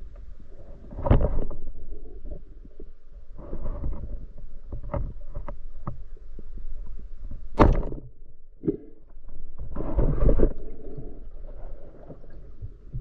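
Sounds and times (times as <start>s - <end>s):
underwater clicks and knocks: 0.9s - 13.0s.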